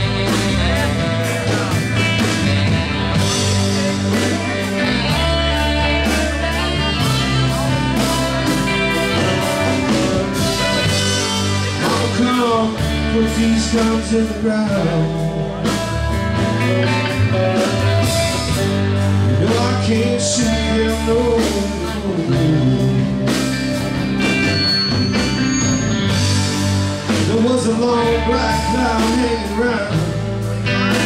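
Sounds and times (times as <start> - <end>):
bass guitar: 0.0 - 31.0
drum kit: 0.0 - 31.0
electric guitar: 0.0 - 31.0
saxophone: 0.0 - 31.0.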